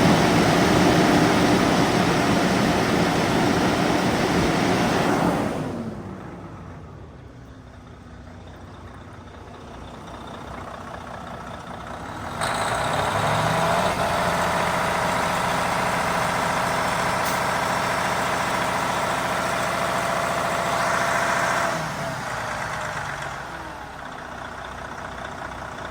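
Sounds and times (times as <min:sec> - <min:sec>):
diesel engine idling and revving: 0:00.0 - 0:25.9.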